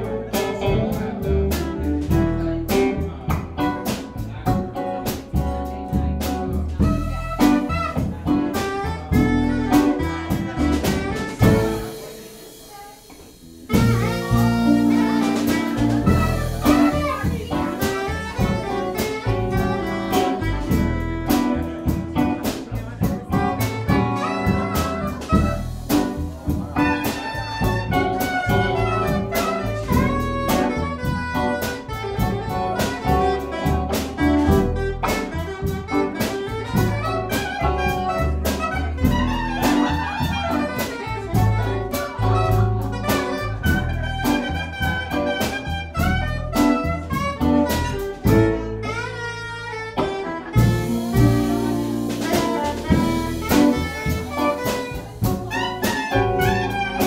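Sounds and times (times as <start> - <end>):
live jazz band playing: 0.0 - 57.0
saxophone: 0.0 - 57.0.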